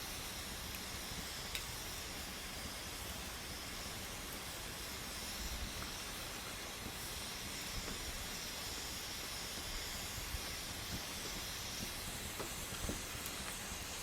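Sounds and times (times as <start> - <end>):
campfire hissing and crackling: 0.0 - 14.0.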